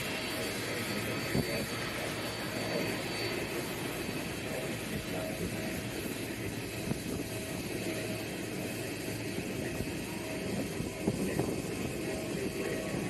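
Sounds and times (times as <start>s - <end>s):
distant aircraft engines rumbling: 0.0s - 13.0s
faint steady tones: 0.0s - 13.0s.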